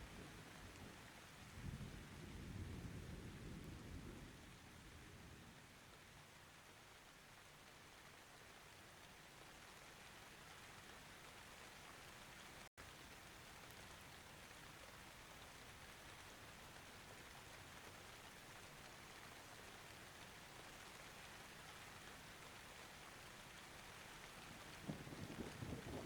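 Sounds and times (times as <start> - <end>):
faint steady rain: 0.0 - 26.0.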